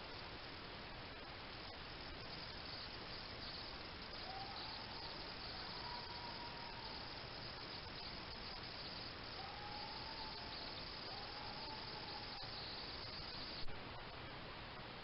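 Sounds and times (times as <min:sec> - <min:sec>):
even hiss: 0:00.0 - 0:14.3
faint drawn-out tones: 0:00.0 - 0:15.0
crickets chirring: 0:01.2 - 0:13.7.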